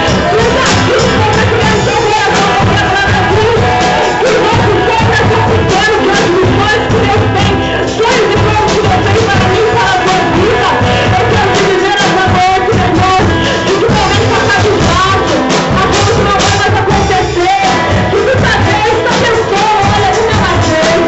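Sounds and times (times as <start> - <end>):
band playing worship music: 0.0 - 21.0
people singing: 0.0 - 21.0.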